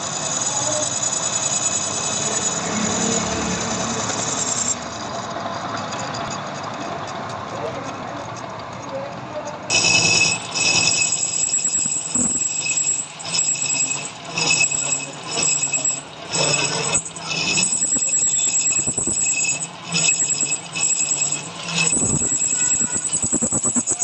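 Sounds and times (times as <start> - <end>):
lathe tool ringing squeal: 0.0 - 7.0, 9.7 - 24.0
lathe machine hum: 0.0 - 7.3, 9.7 - 24.0.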